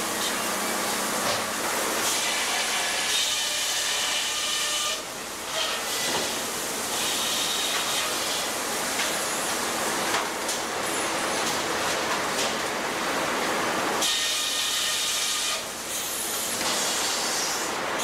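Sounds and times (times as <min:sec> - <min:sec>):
sawmill machinery rushing: 0:00.0 - 0:18.0.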